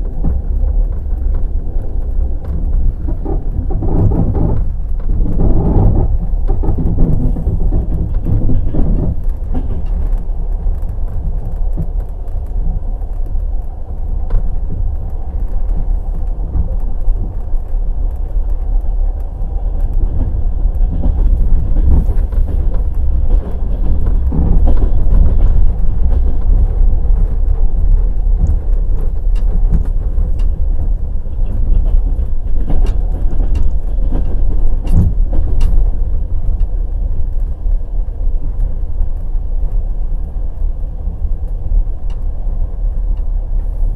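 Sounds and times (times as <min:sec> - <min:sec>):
train wheels rumbling on rails: 0:00.0 - 0:43.9
wheels clacking over rail joints: 0:00.0 - 0:43.9.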